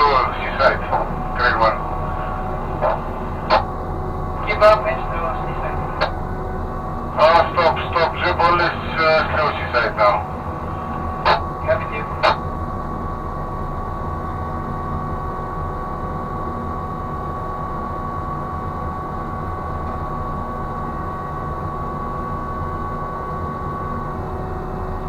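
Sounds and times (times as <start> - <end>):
crane machinery rumble and whine: 0.0 - 25.0.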